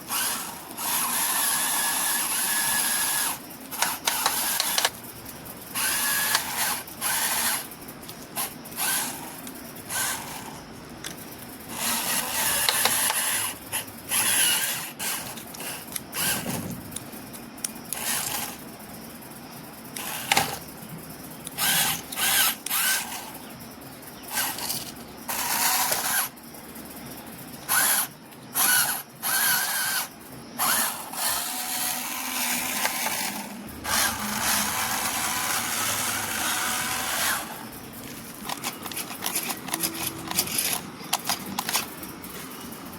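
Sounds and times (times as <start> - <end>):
toy car electric motors whining: 0.0 - 17.1, 17.8 - 18.8, 19.9 - 20.7, 21.4 - 23.6, 24.2 - 26.4, 27.6 - 42.8.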